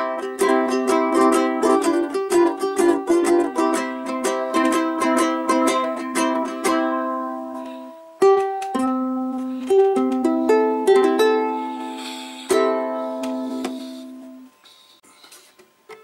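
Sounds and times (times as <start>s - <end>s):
ukulele notes and chords: 0.0s - 14.5s.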